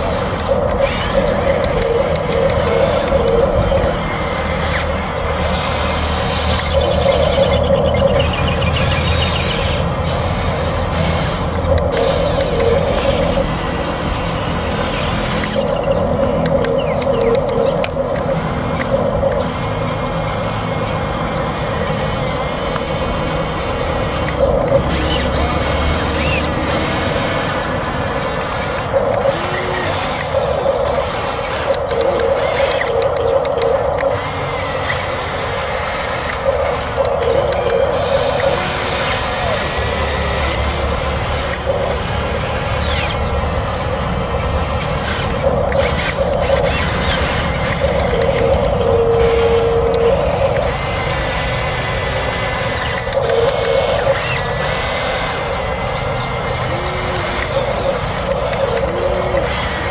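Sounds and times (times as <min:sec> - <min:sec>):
toy motors whirring and grinding: 0:00.0 - 0:59.9.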